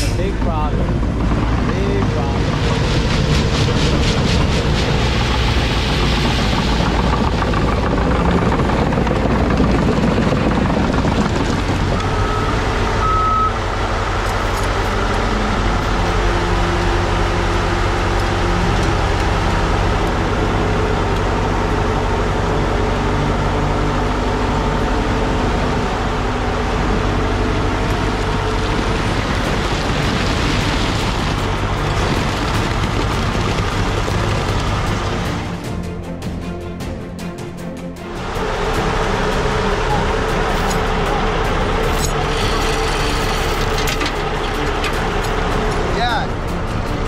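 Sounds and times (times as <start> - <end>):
heavy diesel engines running: 0.0 - 47.0.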